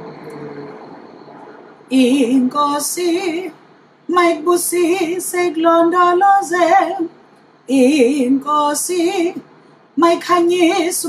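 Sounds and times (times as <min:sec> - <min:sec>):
woman singing with vibrato: 0:01.9 - 0:11.0.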